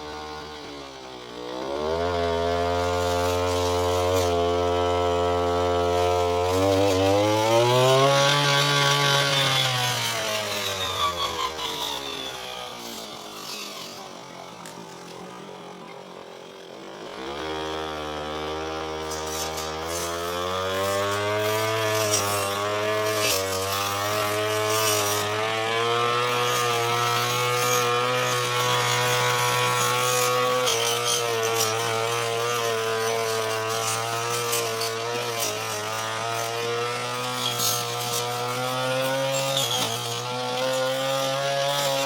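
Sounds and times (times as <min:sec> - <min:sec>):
brush cutter engine running: 0:00.0 - 0:42.0.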